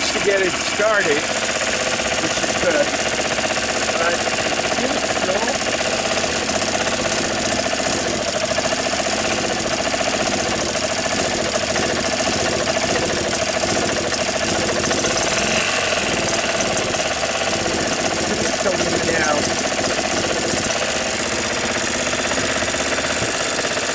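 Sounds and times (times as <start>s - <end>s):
golf cart engine running: 0.0s - 23.9s.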